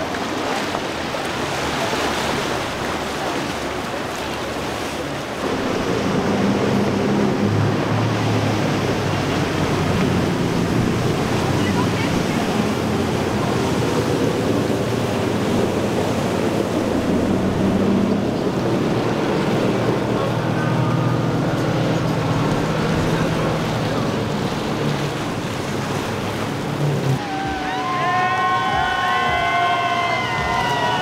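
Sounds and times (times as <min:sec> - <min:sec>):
outboard motors running: 0:00.0 - 0:31.0
water rushing from boat wake: 0:00.0 - 0:31.0.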